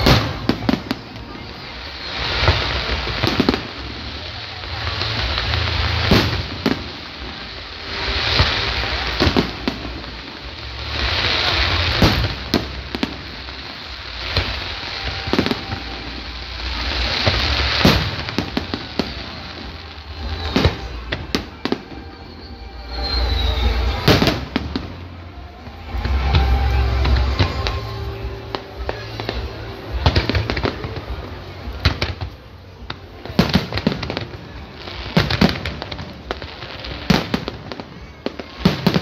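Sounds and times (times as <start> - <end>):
fireworks bangs: 0.0 - 39.0
fireworks crackling hiss: 0.0 - 39.0.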